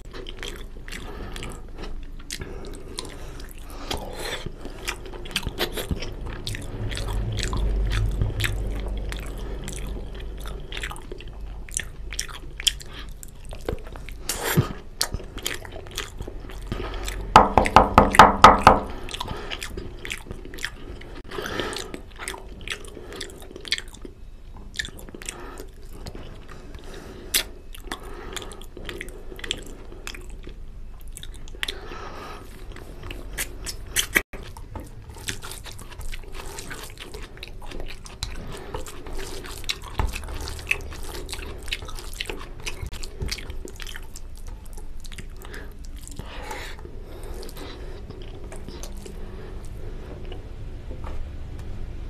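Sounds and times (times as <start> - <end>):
wet chewing and lip smacking: 0.0 - 17.8, 18.8 - 50.5.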